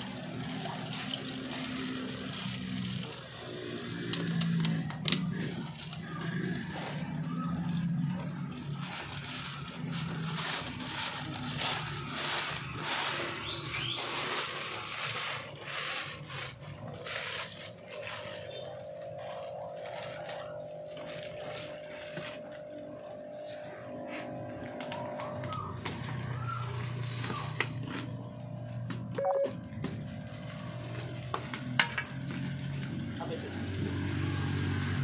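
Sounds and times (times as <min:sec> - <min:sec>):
plastic bags crinkling: 0:00.0 - 0:35.0.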